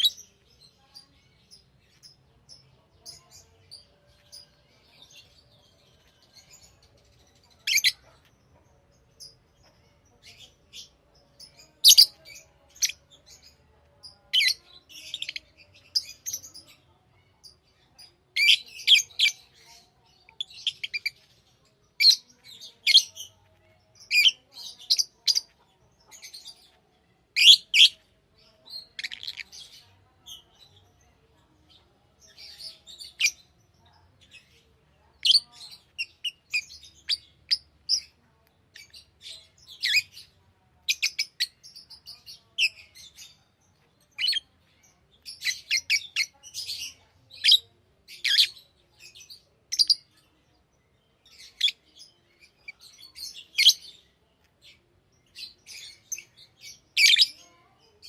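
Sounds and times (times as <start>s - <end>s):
lovebirds chirping: 0.0s - 58.0s.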